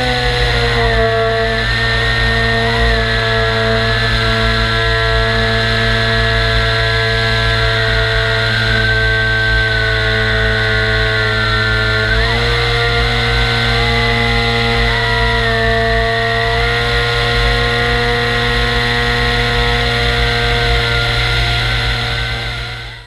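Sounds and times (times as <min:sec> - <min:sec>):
model airplane motor buzzing: 0:00.0 - 0:23.0.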